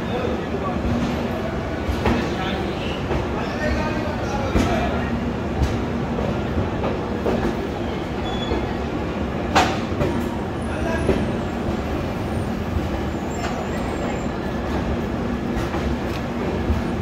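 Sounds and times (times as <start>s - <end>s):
train coaches rumbling: 0.0s - 17.0s.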